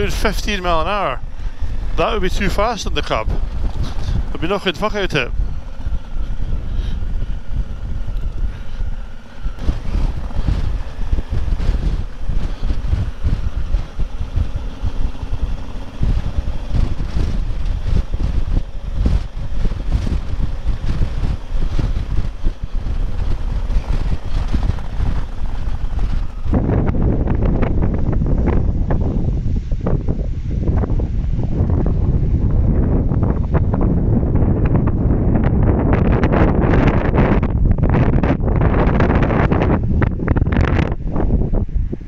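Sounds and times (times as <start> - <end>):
motorcycle engine running: 0.0 - 42.0
wind buffeting microphone: 0.0 - 42.0.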